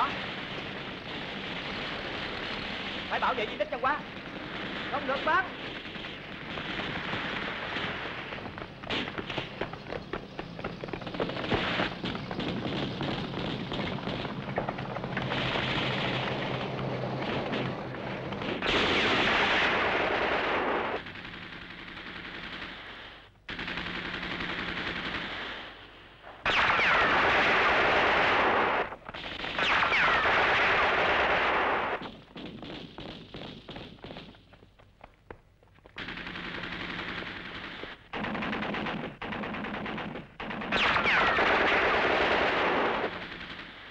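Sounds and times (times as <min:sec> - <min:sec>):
machine-gun and rifle fire: 0:00.0 - 0:25.8, 0:26.4 - 0:34.5, 0:36.0 - 0:43.9.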